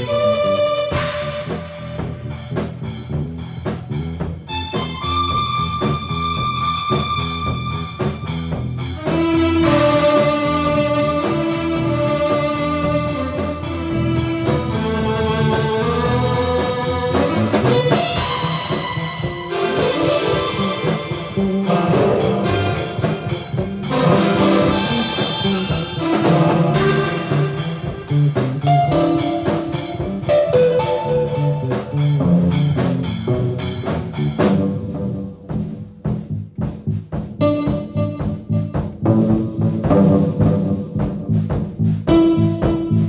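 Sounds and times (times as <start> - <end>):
electric guitar lines: 0.0 - 3.8, 4.4 - 35.6, 37.4 - 41.3, 42.1 - 43.0
busy drum kit: 0.0 - 43.0.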